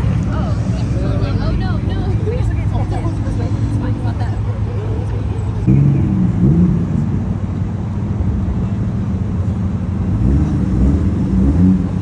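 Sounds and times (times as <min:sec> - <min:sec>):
car engines idling and revving: 0:00.0 - 0:12.0.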